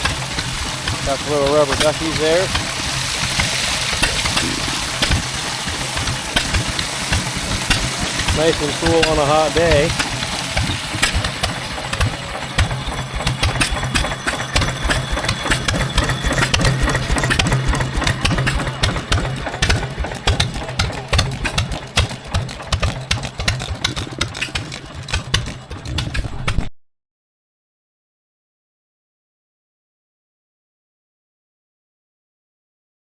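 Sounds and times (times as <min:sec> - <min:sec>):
engine running: 0:00.0 - 0:26.7.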